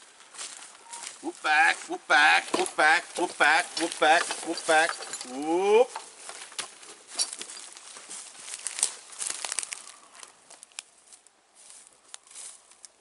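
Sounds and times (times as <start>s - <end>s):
dry leaves crackling underfoot: 0.0s - 13.0s.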